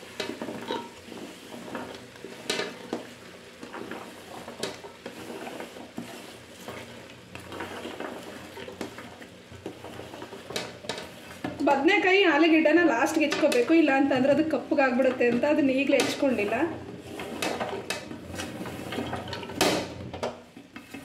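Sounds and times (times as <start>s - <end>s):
vegetables clattering into pot: 0.0s - 11.8s, 12.5s - 21.0s
oil sizzling: 0.0s - 20.1s.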